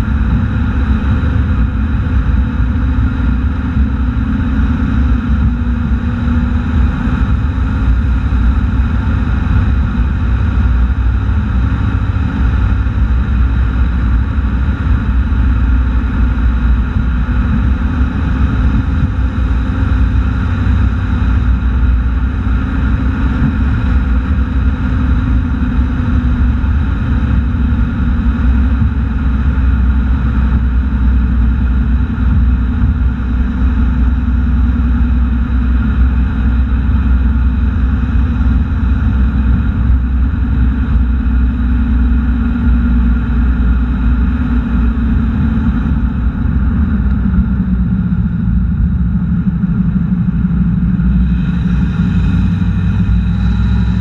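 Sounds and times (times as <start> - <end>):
vehicle driving on highway: 0.0 - 54.0.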